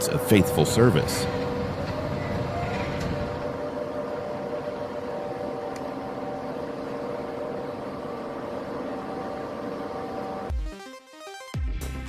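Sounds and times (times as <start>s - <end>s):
heavy truck engine running: 0.0s - 10.5s
road noise: 0.0s - 10.5s.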